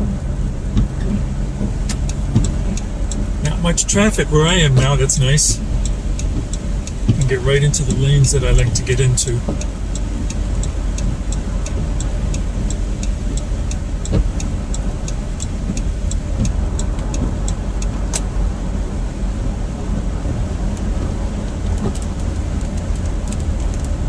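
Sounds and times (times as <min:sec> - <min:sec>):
car engine and tyres rumbling: 0:00.0 - 0:24.0
turn signal ticking: 0:00.0 - 0:24.0.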